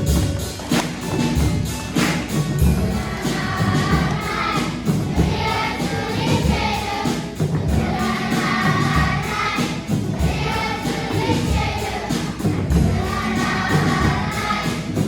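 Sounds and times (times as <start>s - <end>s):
backing music with steady beat: 0.0s - 15.0s
children's choir singing: 0.0s - 15.0s.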